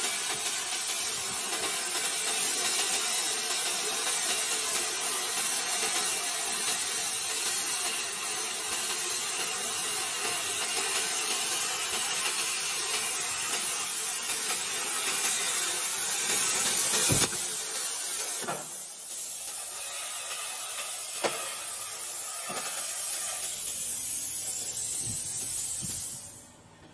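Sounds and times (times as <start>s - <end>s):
plasma torch hissing: 0.0s - 26.5s.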